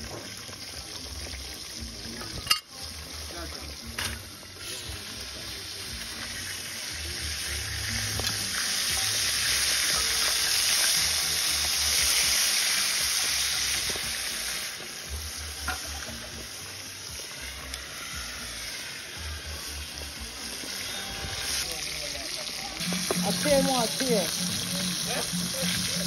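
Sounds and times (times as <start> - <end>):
hot oil sizzling: 0.0 - 26.0.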